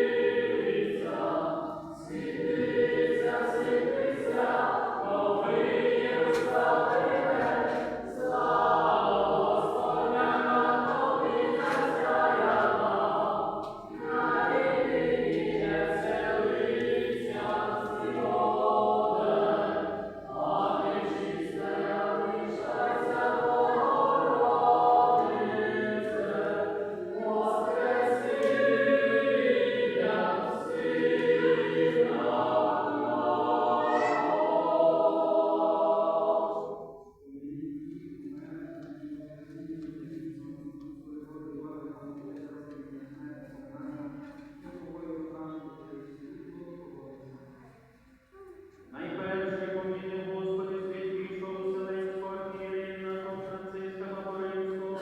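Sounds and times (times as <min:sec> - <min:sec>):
church choir chanting: 0:00.0 - 0:55.0.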